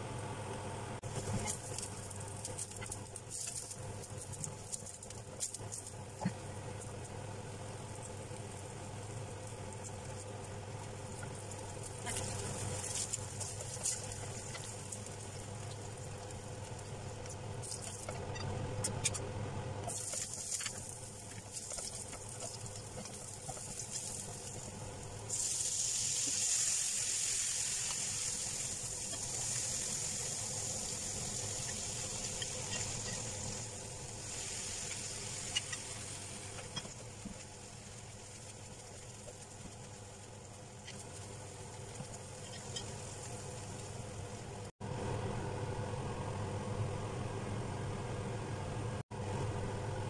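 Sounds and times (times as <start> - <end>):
steady low hum: 0.0 - 26.4, 27.6 - 50.0
loud steady sizzle: 0.0 - 50.0
vegetables frying in a pan: 1.0 - 19.2, 19.8 - 44.7.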